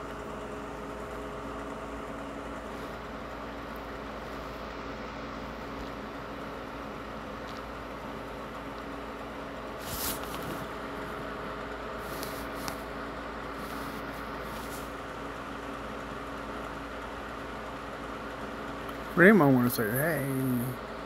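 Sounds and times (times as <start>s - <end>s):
room noise hum and hiss: 0.0s - 21.0s.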